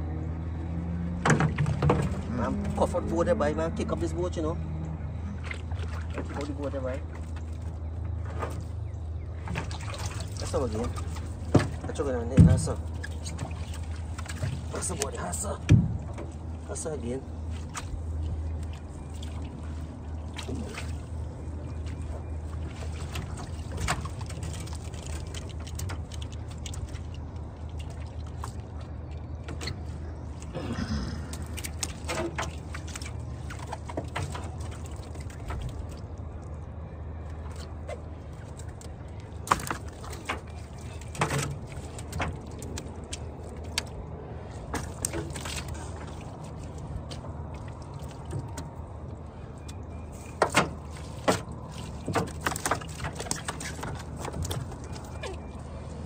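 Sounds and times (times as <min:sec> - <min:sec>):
steady low hum: 0:00.0 - 0:56.0
water pouring and dripping: 0:05.4 - 0:08.8, 0:09.4 - 0:56.0.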